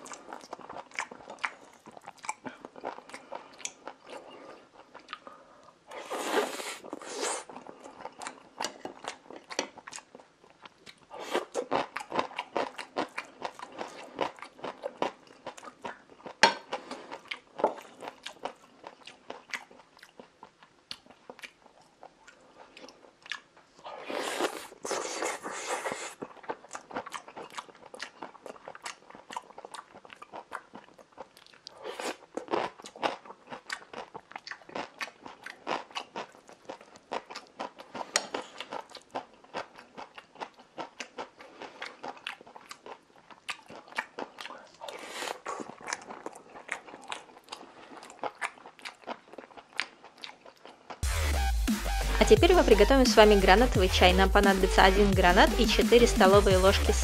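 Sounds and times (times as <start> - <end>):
chewing with crisp crunches: 0.0 - 51.1.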